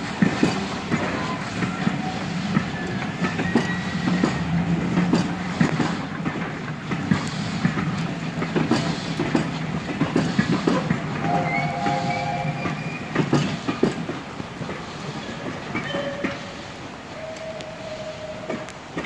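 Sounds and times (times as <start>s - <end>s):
wheels clacking over rail joints: 0.0s - 17.7s
train rumble: 0.0s - 19.0s.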